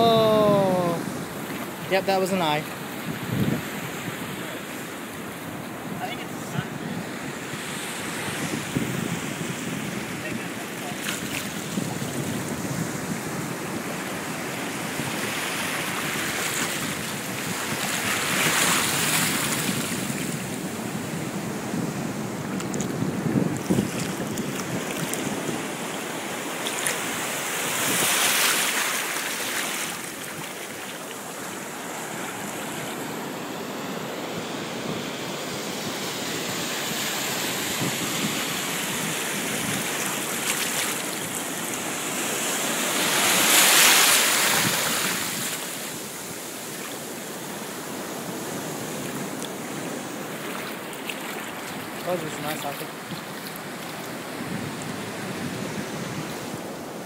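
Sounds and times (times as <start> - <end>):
larger waves breaking: 0.0 - 57.0
surf washing at shore: 0.0 - 57.0.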